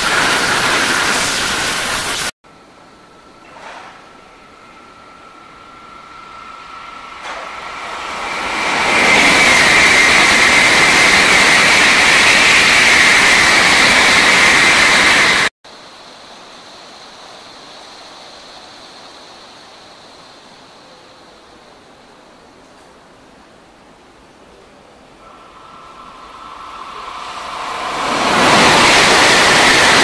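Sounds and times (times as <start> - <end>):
high-speed train rushing past: 0.0 - 30.0.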